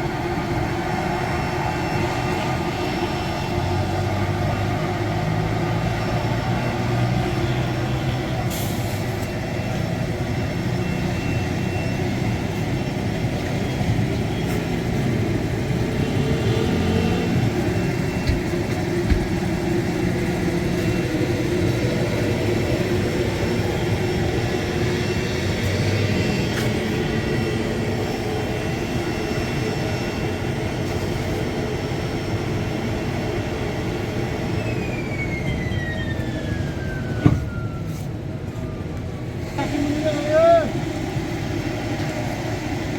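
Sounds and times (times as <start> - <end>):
machinery humming: 0.0 - 37.2, 39.2 - 42.9.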